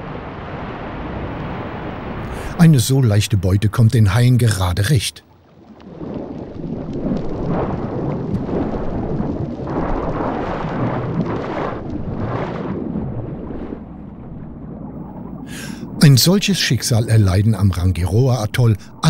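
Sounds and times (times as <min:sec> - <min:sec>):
underwater rushing rumble: 0:00.0 - 0:04.6, 0:05.6 - 0:19.0.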